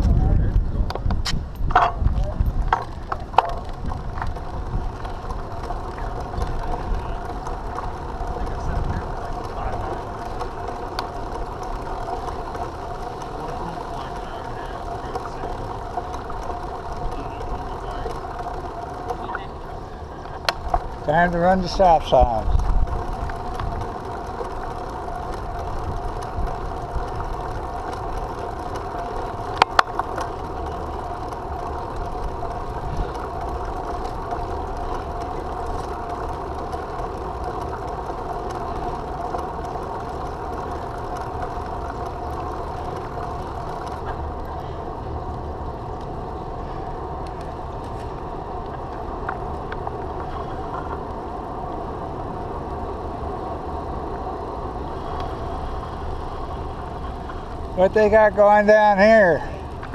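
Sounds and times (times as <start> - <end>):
bicycle tyre and wind rumble: 0.0 - 59.9.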